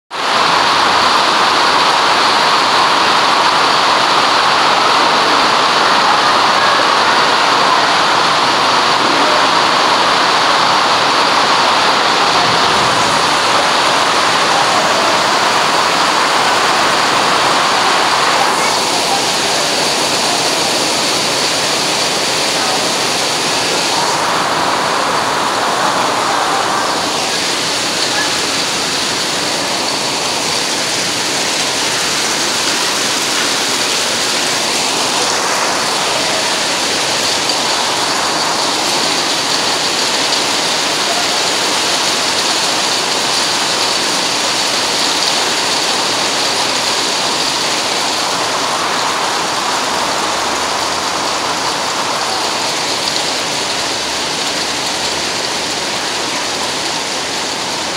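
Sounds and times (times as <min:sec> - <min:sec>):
heavy rain on pavement: 0:00.0 - 0:57.9.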